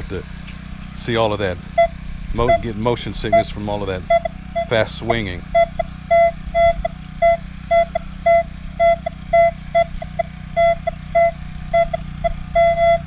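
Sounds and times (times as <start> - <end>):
steady low hum: 0.0 - 13.0
metal detector beeps: 1.7 - 13.0.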